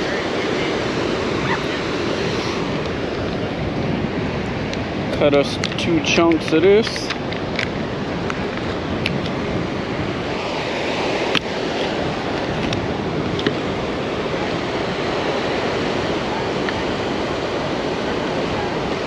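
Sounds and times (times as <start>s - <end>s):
surf: 0.0s - 19.0s
wind noise on microphone: 0.0s - 19.0s.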